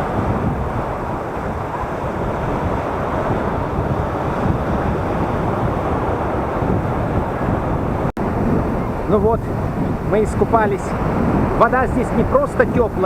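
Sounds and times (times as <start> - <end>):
waves washing in shallow surf: 0.0 - 13.0
wind buffeting microphone: 0.0 - 13.0.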